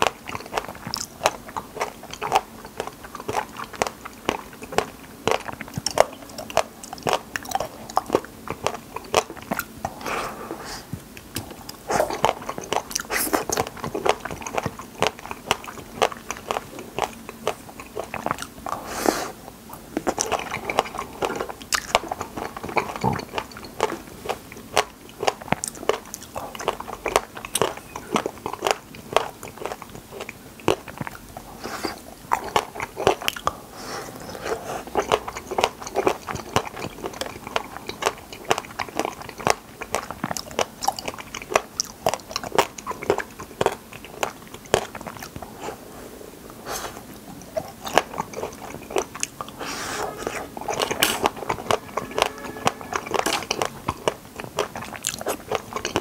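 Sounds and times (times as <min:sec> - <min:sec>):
wet juicy chewing: 0:00.0 - 0:45.8, 0:46.6 - 0:56.0.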